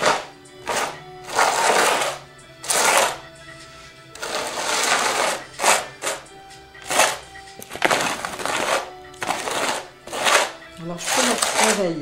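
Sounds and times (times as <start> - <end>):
palette knife scraping paste: 0.0 - 3.2, 4.2 - 12.0.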